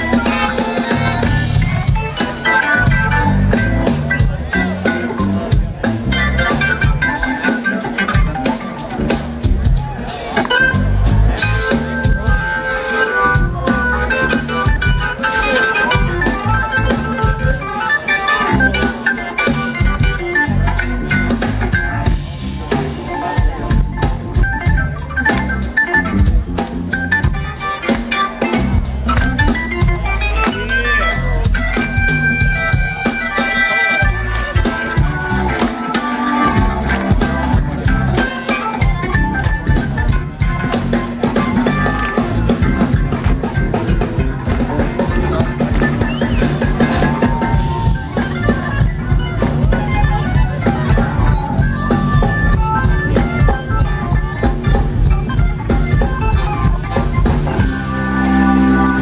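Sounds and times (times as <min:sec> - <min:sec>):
blues-rock band playing live: 0:00.0 - 0:59.0
organ melody: 0:00.0 - 0:59.0.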